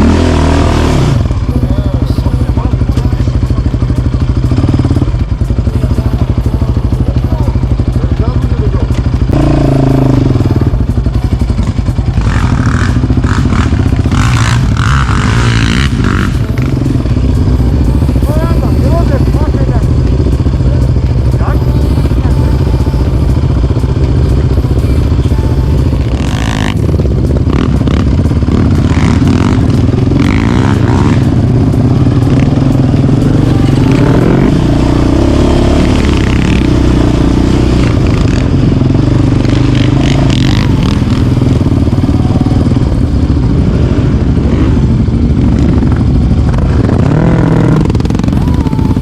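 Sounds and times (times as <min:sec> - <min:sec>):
quad bike engine running: 0:00.0 - 0:49.0.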